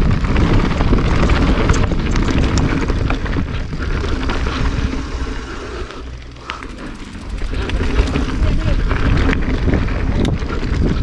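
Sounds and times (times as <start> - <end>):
bike rattling: 0.0 - 11.0
tyres rolling over dirt: 0.0 - 11.0
wind rumbling on microphone: 0.0 - 11.0.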